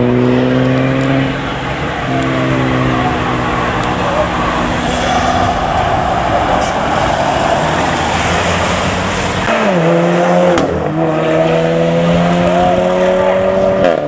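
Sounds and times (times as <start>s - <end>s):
car engine with loud exhaust: 0.0s - 14.0s.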